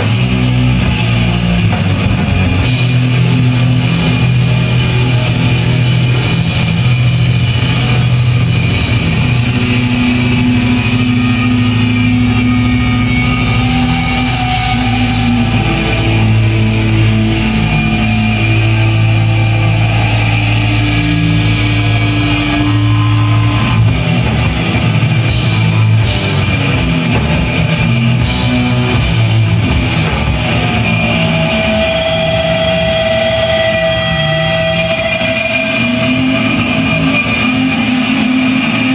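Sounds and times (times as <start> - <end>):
heavy rock music: 0.0 - 38.9.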